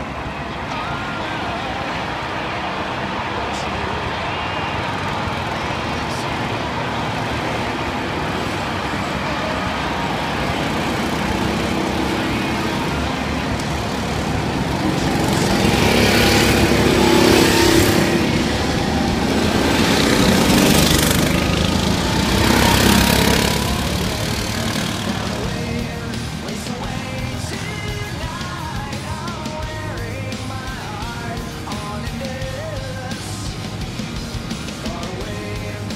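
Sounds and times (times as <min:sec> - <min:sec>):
go-kart engines: 0:00.0 - 0:35.9.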